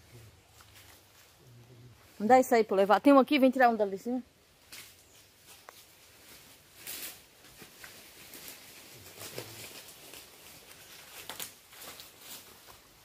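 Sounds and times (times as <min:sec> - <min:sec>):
footsteps through vegetation: 0:00.0 - 0:02.9, 0:04.6 - 0:13.0.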